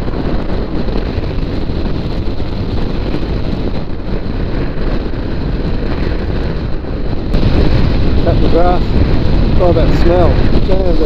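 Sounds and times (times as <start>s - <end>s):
motorcycle running: 0.0s - 11.0s
wind rushing on microphone: 0.0s - 11.0s.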